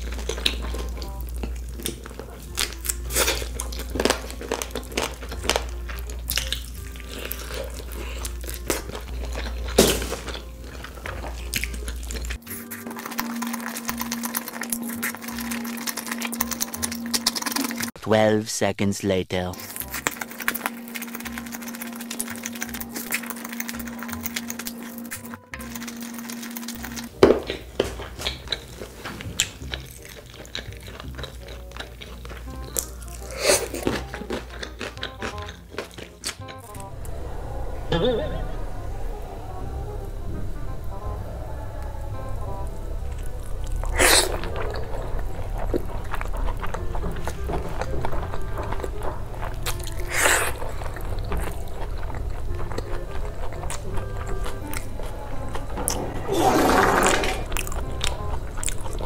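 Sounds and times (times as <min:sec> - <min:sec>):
crunching fried chicken: 0:00.0 - 0:18.0, 0:19.6 - 0:39.5, 0:41.3 - 0:59.0
person biting and chewing: 0:00.0 - 0:18.0, 0:19.6 - 0:37.2, 0:42.7 - 0:59.0
background music: 0:00.0 - 0:18.4, 0:19.0 - 0:59.0.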